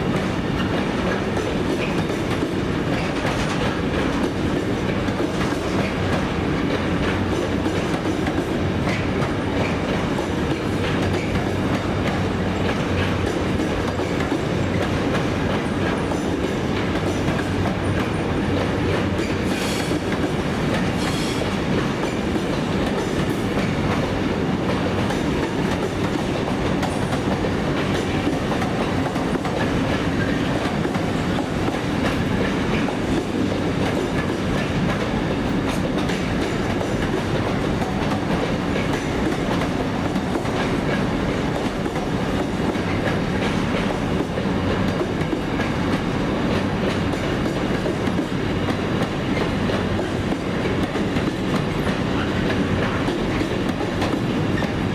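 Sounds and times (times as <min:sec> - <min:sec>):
train wheels clattering: 0:00.0 - 0:54.9.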